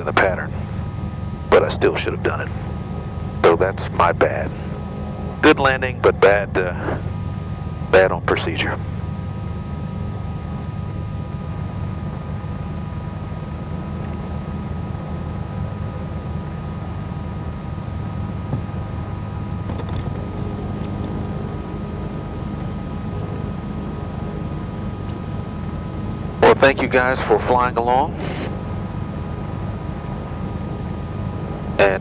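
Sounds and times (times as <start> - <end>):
aircraft piston engines droning: 0.0 - 32.0
faint high whine: 0.0 - 32.0.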